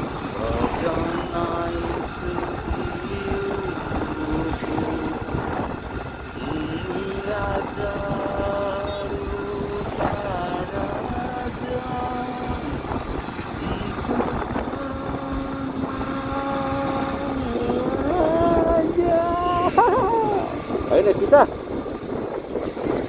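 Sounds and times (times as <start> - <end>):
motor scooter engine running: 0.0 - 23.0
wind on microphone: 0.0 - 23.0.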